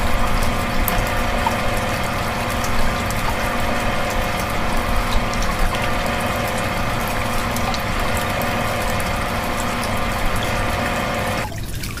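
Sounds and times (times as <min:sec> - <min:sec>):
small pump motor whining: 0:00.0 - 0:11.5
water splashing: 0:00.0 - 0:12.0.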